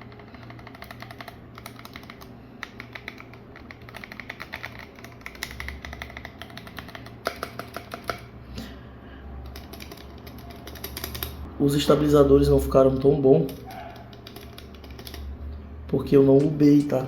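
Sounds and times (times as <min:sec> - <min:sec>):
mechanical keyboard typing: 0:00.0 - 0:08.3, 0:09.4 - 0:11.5, 0:12.9 - 0:16.5.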